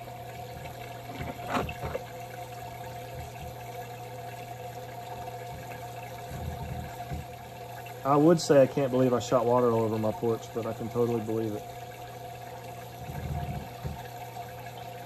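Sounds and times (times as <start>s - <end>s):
submersible pump humming: 0.0s - 15.0s
water splashing and trickling: 0.0s - 15.0s.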